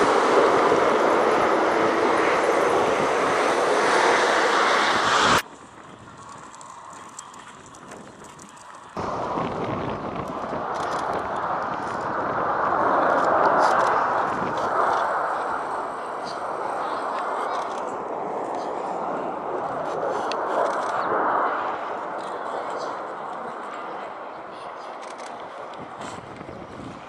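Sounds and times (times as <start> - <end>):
military aircraft engine roar: 0.0 - 27.0.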